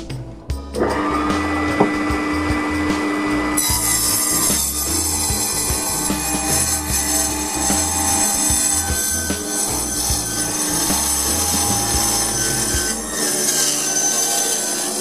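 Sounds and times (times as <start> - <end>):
background music: 0.0 - 15.0
table saw cutting wood: 0.8 - 15.0.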